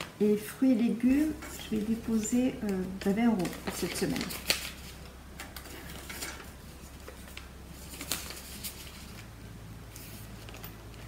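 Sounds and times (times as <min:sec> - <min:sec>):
faint low hum: 0:00.0 - 0:11.0
plastic and paper rustling: 0:00.9 - 0:11.0.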